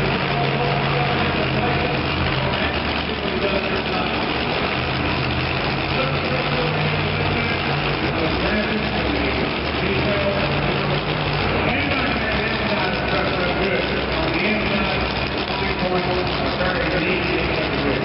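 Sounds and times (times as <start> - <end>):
arena crowd hubbub: 0.0 - 18.0
truck engine idling: 0.0 - 18.0.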